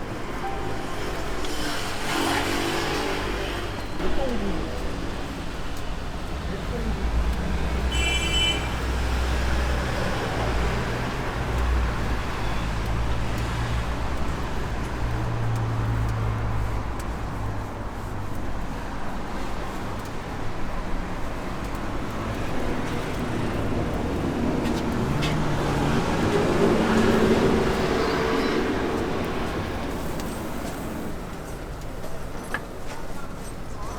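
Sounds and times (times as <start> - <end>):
traffic engines rumbling: 0.0 - 33.9.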